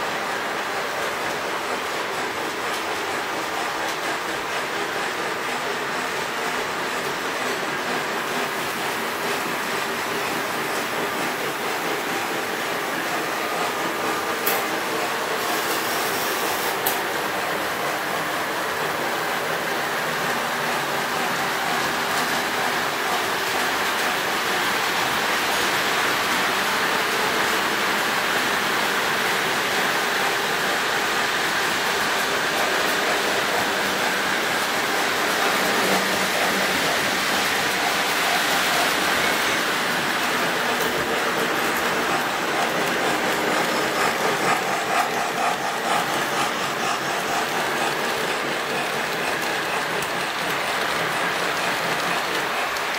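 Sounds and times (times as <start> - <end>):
model train whirring: 0.0 - 52.9.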